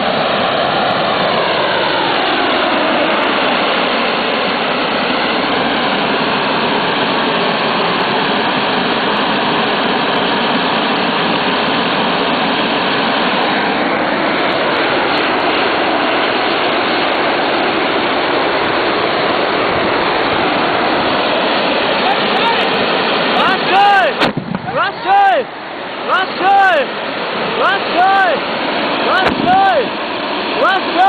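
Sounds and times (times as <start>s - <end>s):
fireworks hissing sparks: 0.0s - 31.0s.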